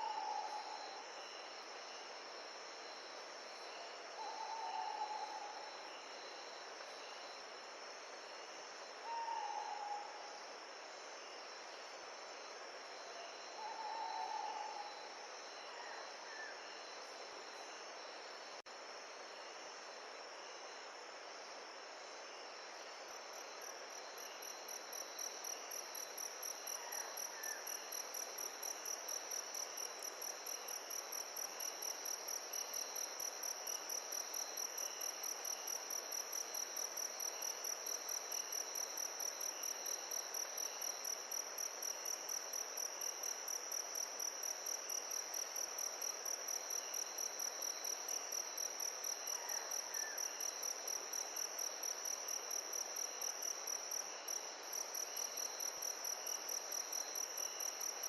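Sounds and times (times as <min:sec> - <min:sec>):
background hiss: 0:00.0 - 0:58.0
crickets chirping: 0:00.0 - 0:58.0.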